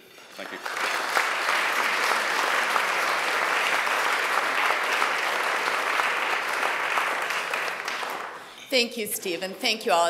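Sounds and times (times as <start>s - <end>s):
audience applauding: 0.3s - 8.5s.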